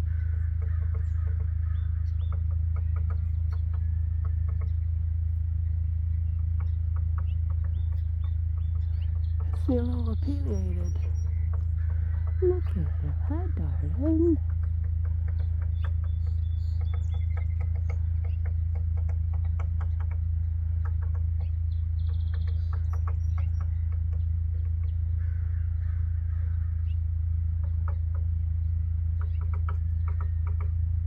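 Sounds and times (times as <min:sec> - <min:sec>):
low hum: 0:00.0 - 0:31.0
woodpecker pecking at a tree: 0:00.0 - 0:31.0.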